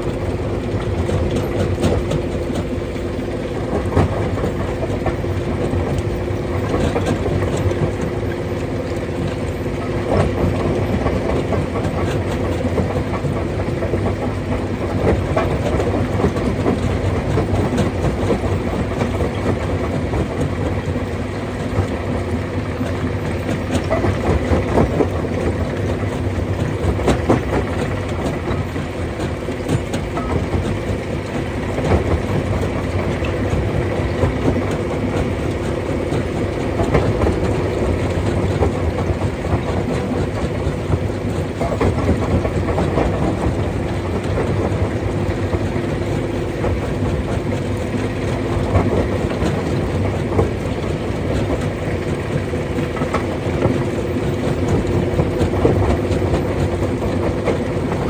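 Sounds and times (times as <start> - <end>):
rock crusher machine hum: 0.0 - 58.0.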